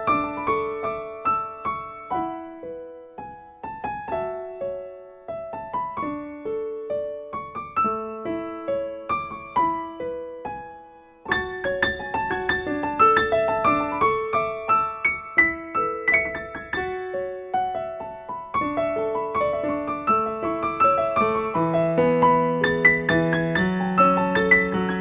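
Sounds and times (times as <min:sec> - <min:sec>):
digital piano playing: 0:00.0 - 0:25.0.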